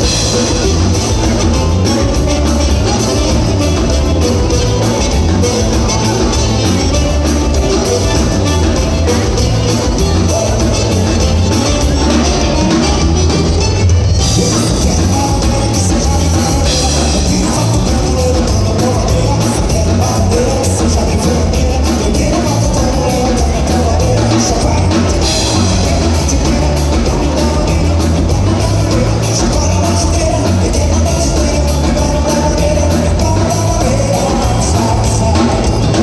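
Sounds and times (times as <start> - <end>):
bass line: 0.0 - 36.0
live band playing dance music: 0.0 - 36.0
person singing: 0.0 - 36.0.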